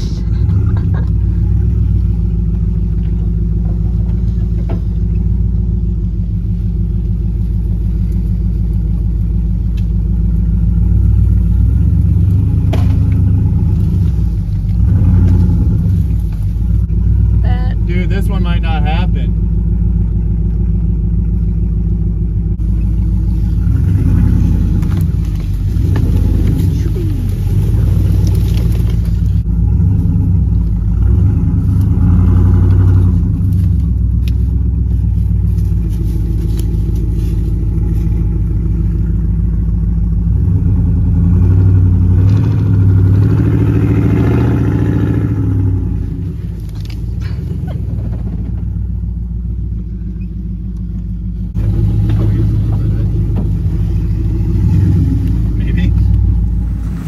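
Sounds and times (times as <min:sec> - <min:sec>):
pickup truck engine revving: 0:00.0 - 0:57.0.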